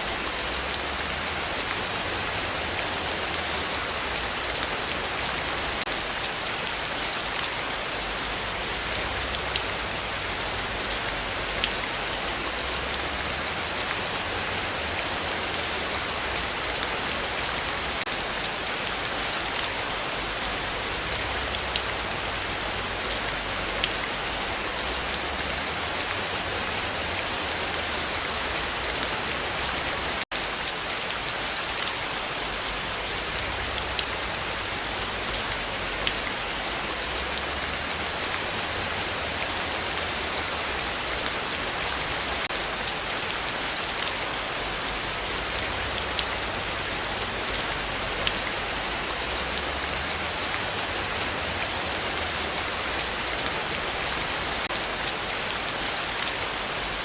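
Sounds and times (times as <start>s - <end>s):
heavy rain in a forest: 0.0s - 57.0s.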